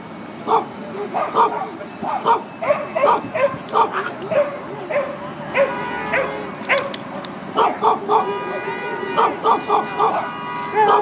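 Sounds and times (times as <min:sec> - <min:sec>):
small dog barking: 0:00.5 - 0:06.9, 0:07.6 - 0:08.3, 0:09.2 - 0:11.0.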